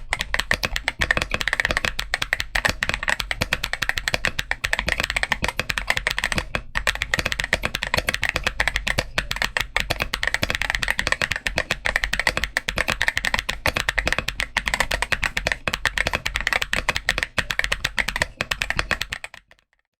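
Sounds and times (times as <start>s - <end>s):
mechanical keyboard typing: 0.0s - 19.9s.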